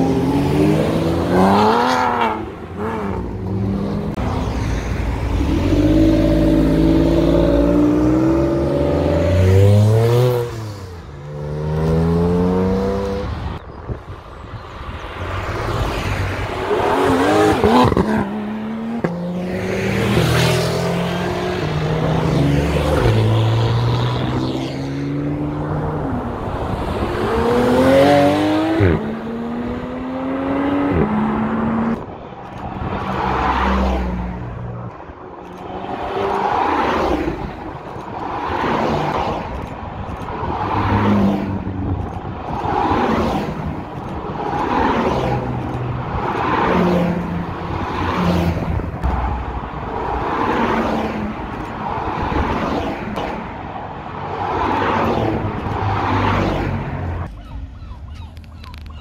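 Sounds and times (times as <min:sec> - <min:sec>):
sports cars accelerating: 0:00.0 - 0:13.6, 0:15.2 - 0:57.3
cars passing: 0:00.0 - 0:59.0.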